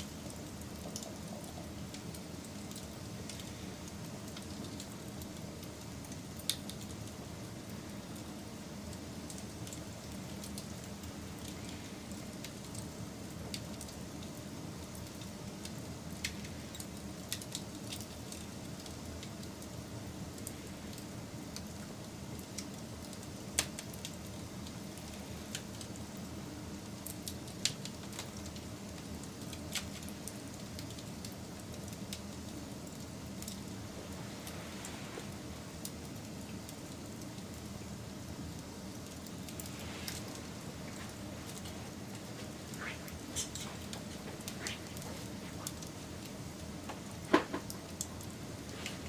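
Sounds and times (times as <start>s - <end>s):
campfire flame rushing: 0.0s - 49.0s
fire crackles and pops: 0.0s - 49.0s.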